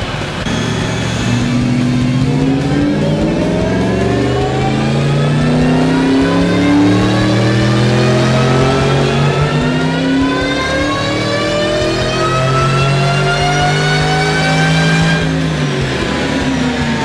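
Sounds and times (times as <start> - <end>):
car engine revving up: 0.0 - 17.0.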